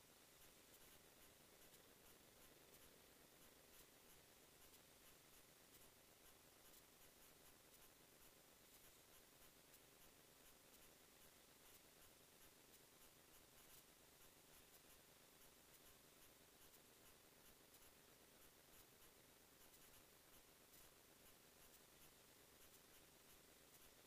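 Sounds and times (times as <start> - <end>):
faint steady hiss: 0.0 - 24.0
faint ticks: 0.0 - 24.0.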